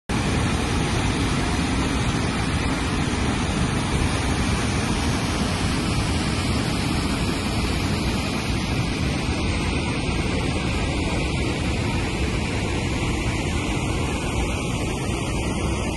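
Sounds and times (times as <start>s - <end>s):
waterfall rushing: 0.1s - 14.0s.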